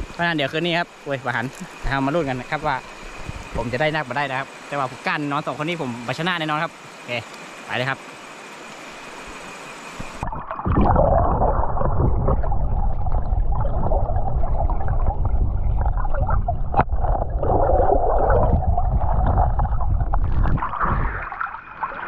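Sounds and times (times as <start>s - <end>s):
underwater gurgling and sloshing: 0.0s - 22.0s.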